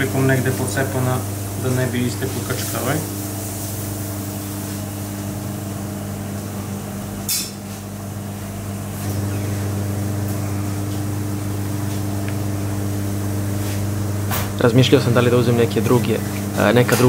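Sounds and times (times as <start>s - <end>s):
low electrical hum of machinery: 0.0s - 17.0s.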